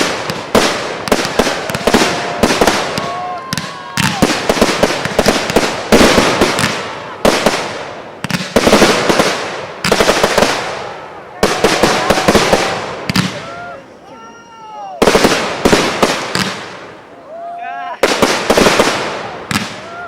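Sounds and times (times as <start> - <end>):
fireworks bursts with crackling: 0.0 - 13.6, 14.9 - 17.2, 17.9 - 20.0.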